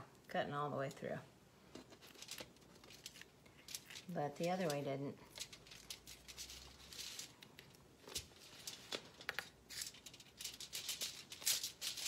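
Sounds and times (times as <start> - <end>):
crisp tortilla crackling: 2.0 - 12.0.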